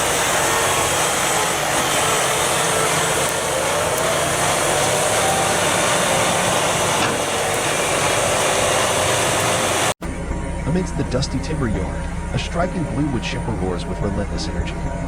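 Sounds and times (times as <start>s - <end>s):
wood chipper running: 0.0s - 15.0s.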